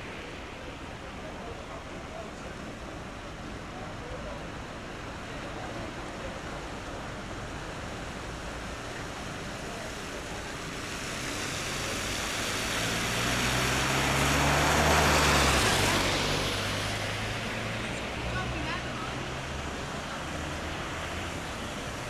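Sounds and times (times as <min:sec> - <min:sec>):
water splashing off car tyres: 0:00.0 - 0:22.0.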